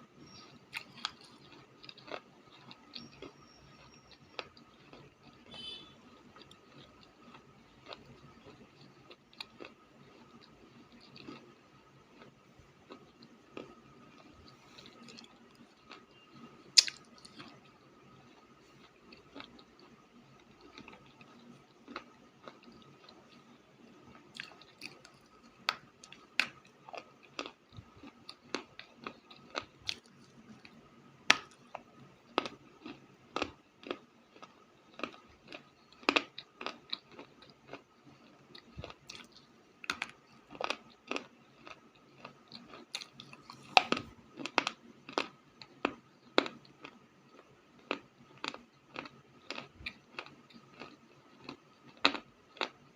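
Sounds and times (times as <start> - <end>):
crunchy clay being chewed: 0.0 - 52.9.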